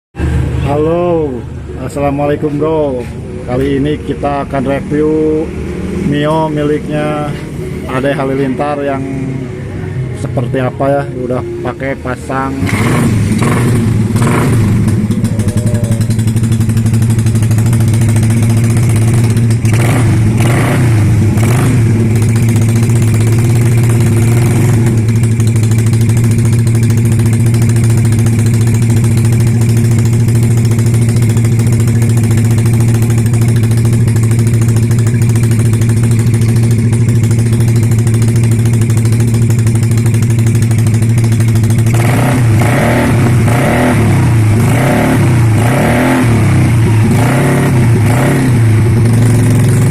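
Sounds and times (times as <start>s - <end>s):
scooter engine idling: 0.2s - 49.9s.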